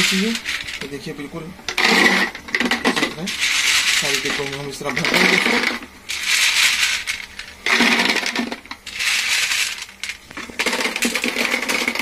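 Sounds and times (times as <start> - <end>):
dry snacks rattling into plastic jar: 0.0 - 0.9, 1.7 - 12.0.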